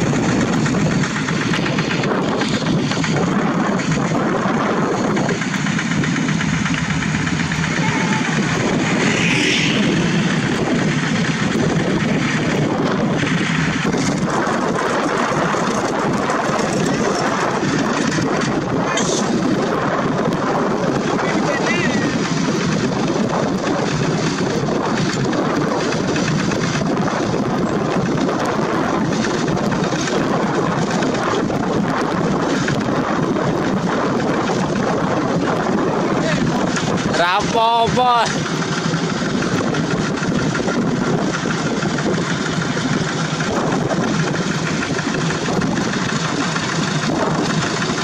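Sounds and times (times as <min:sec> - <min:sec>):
diesel engines clattering: 0:00.0 - 0:48.0
wind buffeting microphone: 0:00.0 - 0:48.0.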